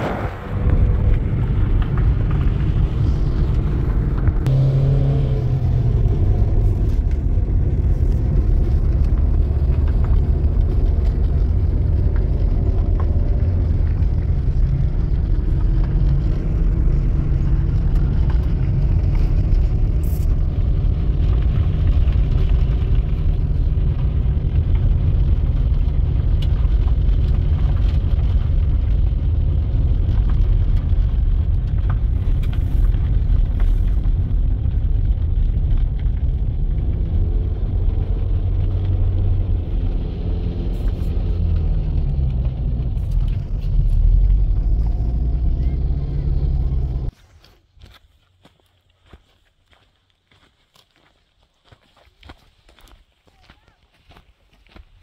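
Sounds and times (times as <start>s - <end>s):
vehicle engine low rumble: 0.0s - 50.4s.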